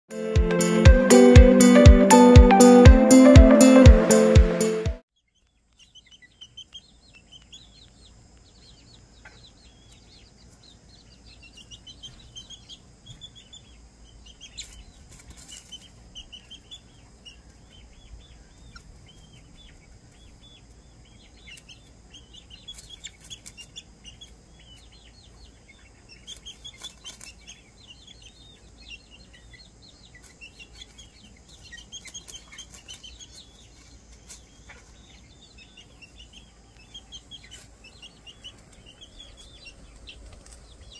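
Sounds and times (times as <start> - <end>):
chick peeping: 0.2 - 40.9.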